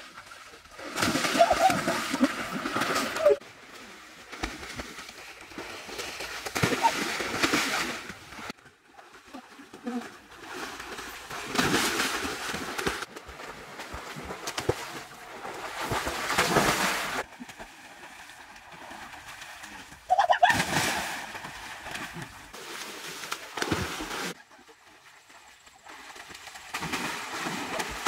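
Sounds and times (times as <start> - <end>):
water splashing in pool: 0.0 - 28.0.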